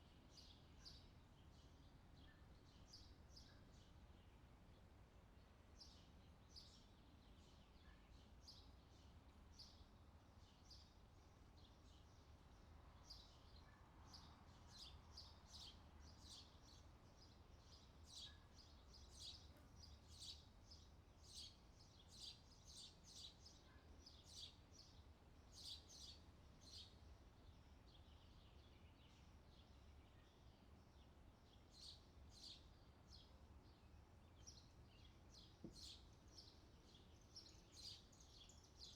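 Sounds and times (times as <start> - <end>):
low steady background noise: 0.0 - 38.9.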